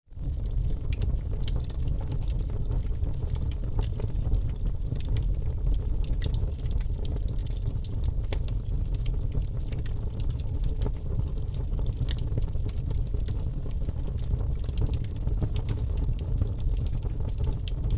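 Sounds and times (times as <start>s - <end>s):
wood fire crackling and popping: 0.1s - 17.9s.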